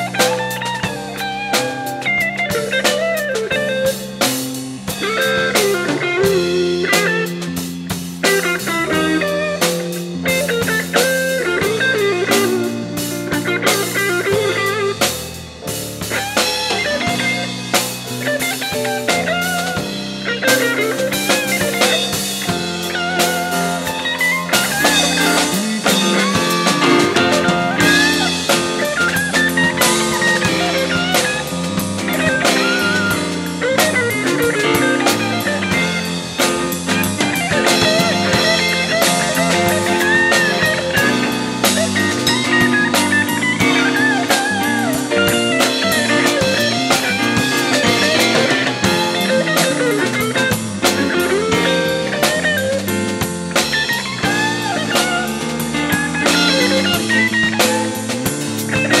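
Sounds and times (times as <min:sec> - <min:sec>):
bass line: 0:00.0 - 0:59.0
drum kit: 0:00.0 - 0:59.0
jazz-funk band playing: 0:00.0 - 0:59.0
melodic lead: 0:00.0 - 0:59.0.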